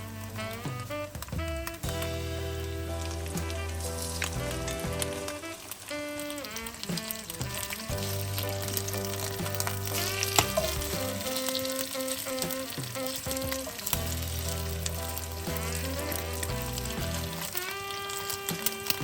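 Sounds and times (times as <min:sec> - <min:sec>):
background music with held notes: 0:00.0 - 0:19.0
food sizzling in a pan: 0:00.0 - 0:19.0
oil popping: 0:00.0 - 0:19.0.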